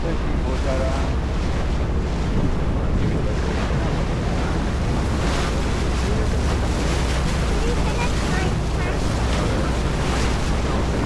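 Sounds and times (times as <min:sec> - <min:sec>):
boat engine rumble: 0:00.0 - 0:11.0
water rushing: 0:00.0 - 0:11.0
wind buffeting microphone: 0:00.0 - 0:11.0.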